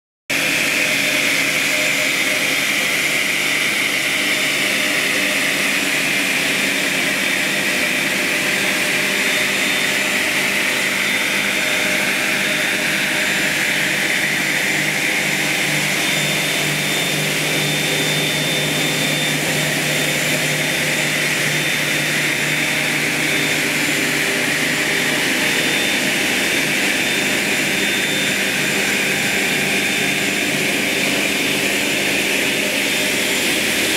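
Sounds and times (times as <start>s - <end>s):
machinery rushing whining hiss: 1.0s - 33.9s
steady low hum: 1.0s - 33.9s.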